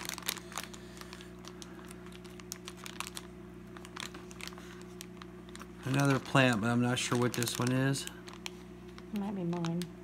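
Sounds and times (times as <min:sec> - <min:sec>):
plastic bag crinkling: 0:00.0 - 0:10.0
steady low hum: 0:00.0 - 0:10.0.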